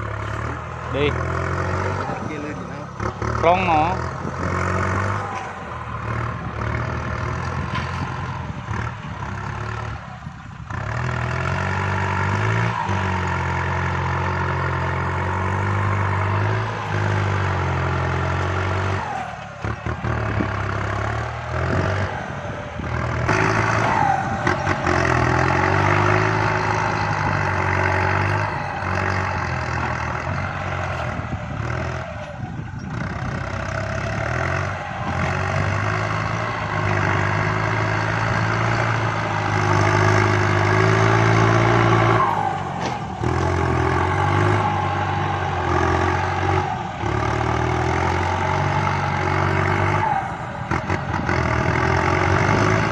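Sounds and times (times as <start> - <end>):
tractor diesel engine under load: 0.0 - 52.9.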